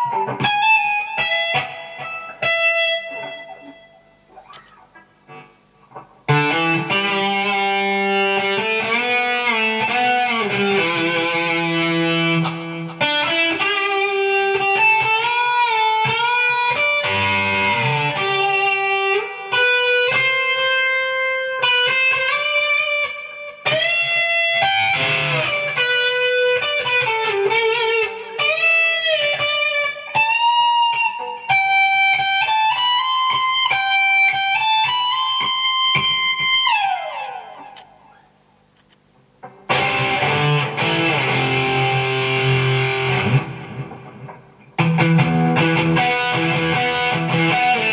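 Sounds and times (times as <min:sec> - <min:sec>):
electric guitar lead line: 0:00.0 - 0:38.2, 0:38.8 - 0:47.9.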